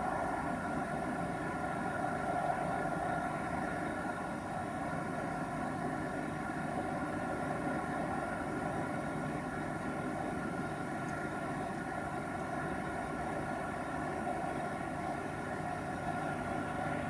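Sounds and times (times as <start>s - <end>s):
eerie distant drone: 0.0s - 17.0s.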